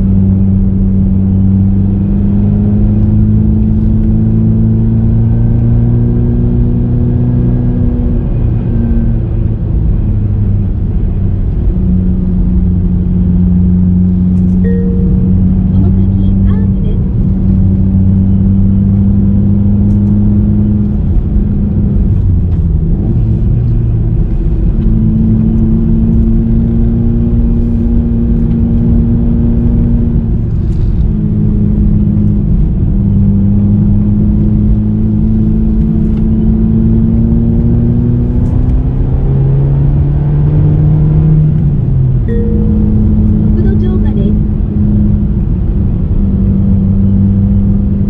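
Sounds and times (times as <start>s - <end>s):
car engine pulling uphill: 0.0s - 48.0s
tyre and road noise: 0.0s - 48.0s.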